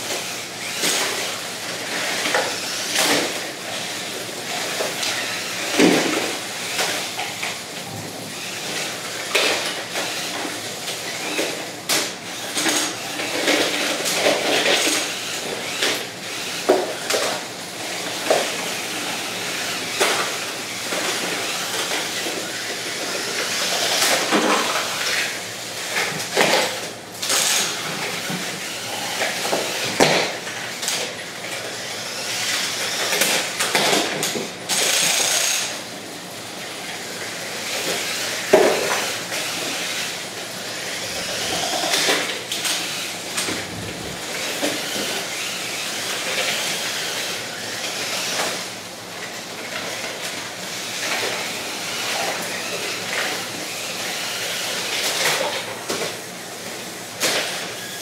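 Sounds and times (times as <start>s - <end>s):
small electric motors whirring: 0.0s - 35.9s, 37.0s - 58.0s.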